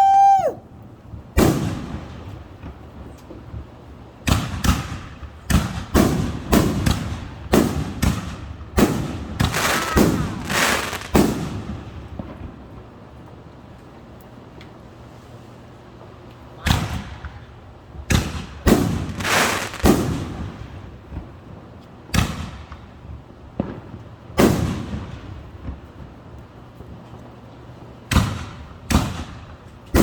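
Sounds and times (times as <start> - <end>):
fireworks exploding: 1.2 - 12.8, 16.6 - 27.2, 28.0 - 30.0.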